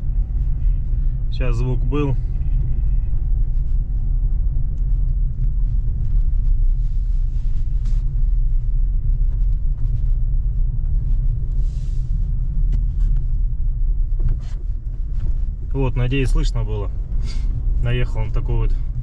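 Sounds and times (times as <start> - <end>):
road rumble inside car: 0.0 - 19.0.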